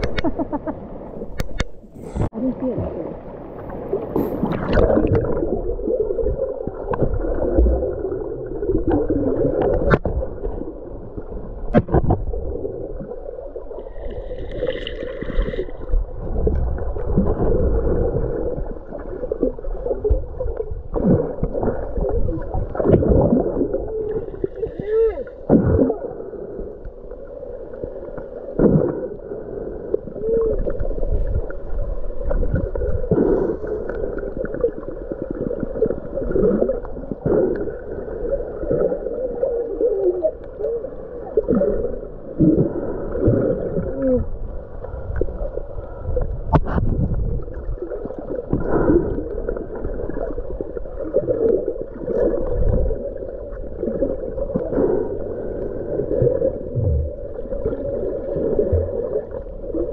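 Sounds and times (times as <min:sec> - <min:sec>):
underwater gurgling: 0:00.0 - 0:59.9.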